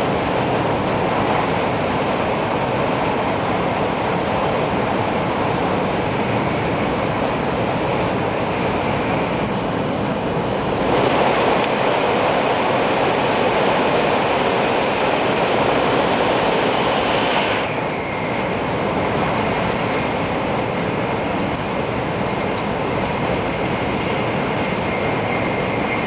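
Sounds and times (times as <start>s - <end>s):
train running noise in cabin: 0.0s - 26.0s.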